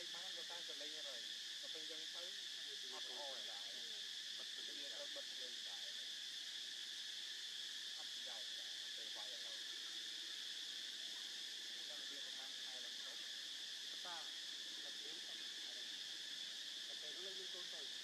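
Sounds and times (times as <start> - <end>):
insect chorus buzzing: 0.0 - 18.0.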